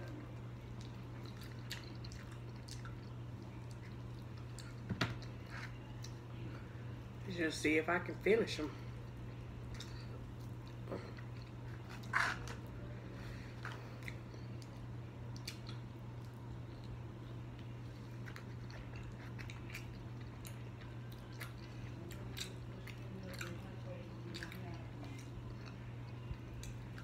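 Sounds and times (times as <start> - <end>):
chewing and mouth sounds: 0.0 - 6.6, 8.9 - 27.0
steady low hum: 0.0 - 27.0.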